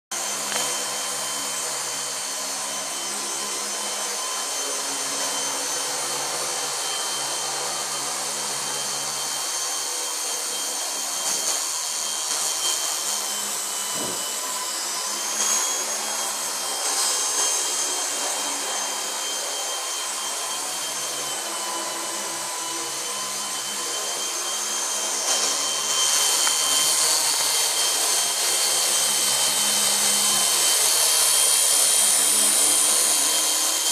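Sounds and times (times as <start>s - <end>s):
rc helicopter motor whine: 0.2s - 33.9s
rotor blades whirring: 0.2s - 33.9s.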